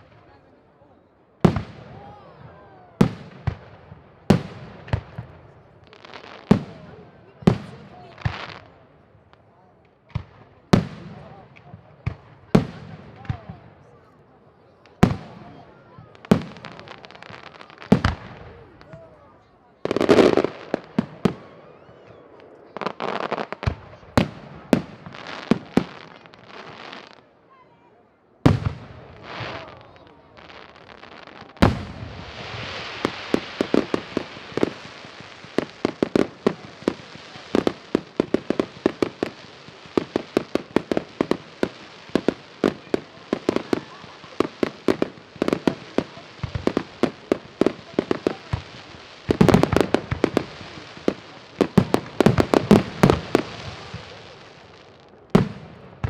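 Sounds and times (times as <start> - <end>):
fireworks crackling: 0.0 - 27.4, 28.4 - 56.0.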